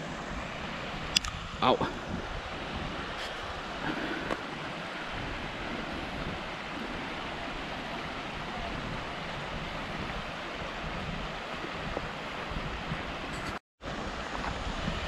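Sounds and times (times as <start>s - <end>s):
mountain stream rushing: 0.0s - 15.0s
wind buffeting microphone: 0.0s - 15.0s.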